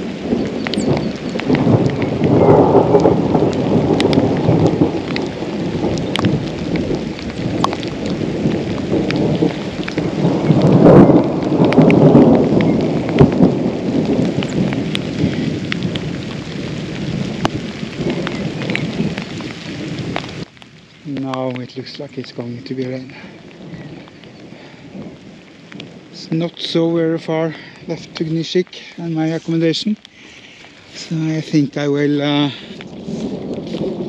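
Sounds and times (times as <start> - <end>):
raindrops ticking: 0.0 - 34.0
thunder rumbling: 0.0 - 34.0.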